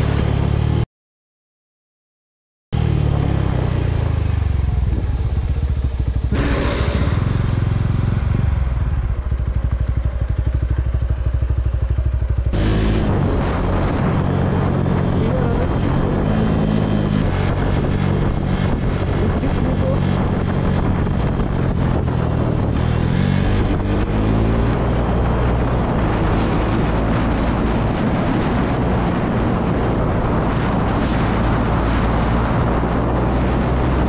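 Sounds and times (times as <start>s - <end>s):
motorcycle engine running: 2.8s - 34.0s.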